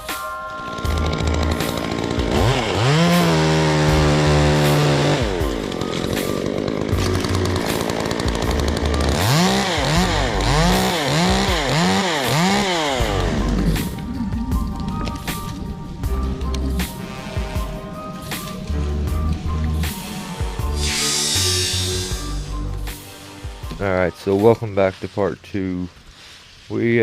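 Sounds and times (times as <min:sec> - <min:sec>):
music with a steady beat: 0:00.0 - 0:23.8
chainsaw revving: 0:00.6 - 0:14.7, 0:16.2 - 0:23.9.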